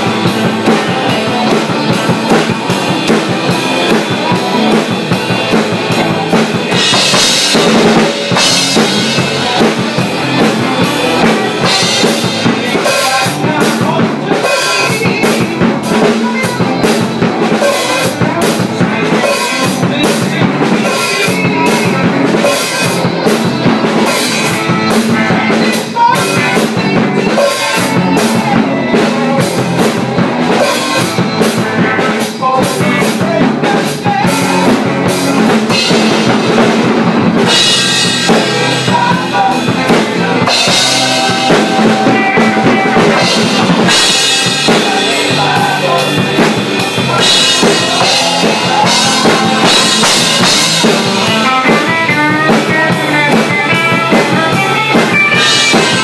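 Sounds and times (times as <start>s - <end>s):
bass guitar: 0.0s - 56.0s
drum kit pounding: 0.0s - 56.0s
electric guitar: 0.0s - 56.0s.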